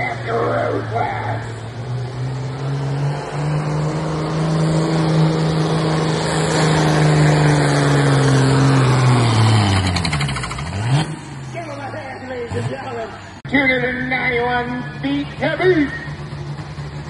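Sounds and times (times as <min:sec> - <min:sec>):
tractor diesel engine at full throttle: 0:00.0 - 0:17.0.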